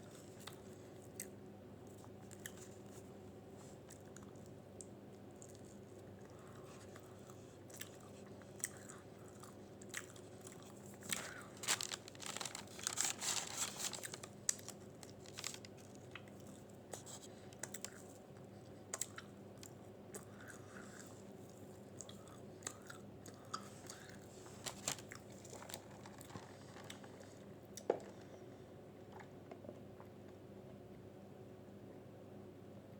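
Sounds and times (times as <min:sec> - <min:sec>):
chewing and mouth sounds: 0:00.0 - 0:30.4.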